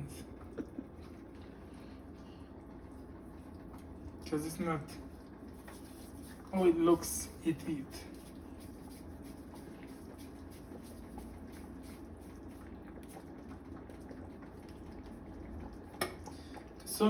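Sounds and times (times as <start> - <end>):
soup bubbling in pot: 0.0 - 17.0.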